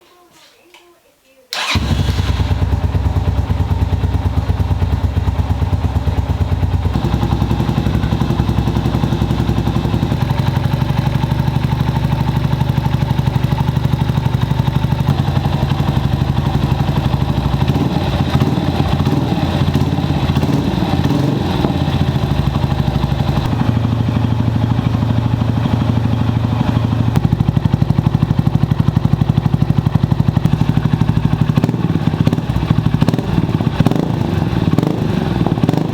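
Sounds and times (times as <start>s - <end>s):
motorcycle engine idling: 1.6s - 35.9s.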